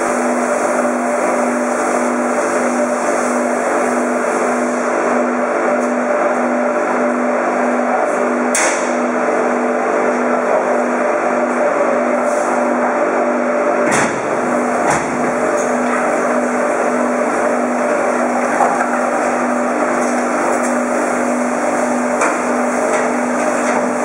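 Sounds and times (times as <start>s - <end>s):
machinery humming and whining: 0.0s - 24.0s.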